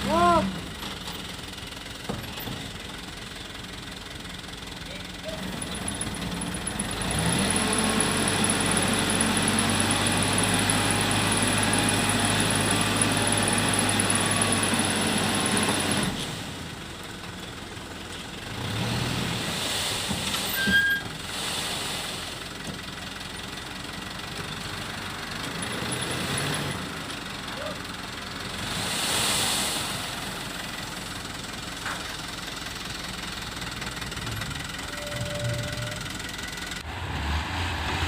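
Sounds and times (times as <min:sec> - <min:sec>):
diesel engine revving: 0:05.2 - 0:17.7, 0:18.4 - 0:38.0.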